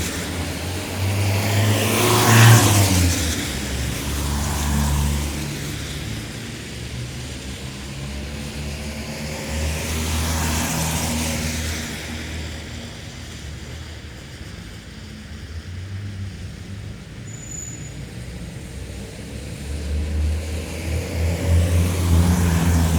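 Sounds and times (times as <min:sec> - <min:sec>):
low rumble of engines: 0:00.0 - 0:22.9
tyres hissing on wet road: 0:00.0 - 0:22.9
vehicle passing with tyre spray: 0:00.0 - 0:22.9.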